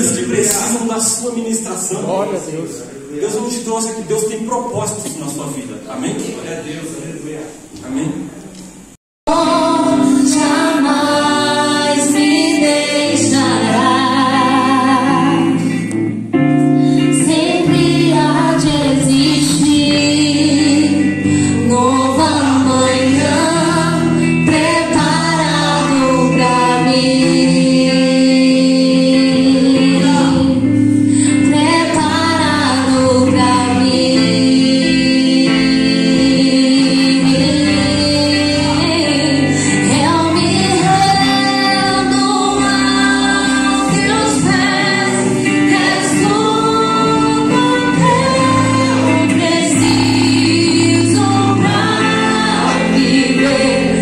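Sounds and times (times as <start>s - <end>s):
amplified electric guitar: 7.6s - 54.0s
woman singing through microphone: 9.3s - 54.0s.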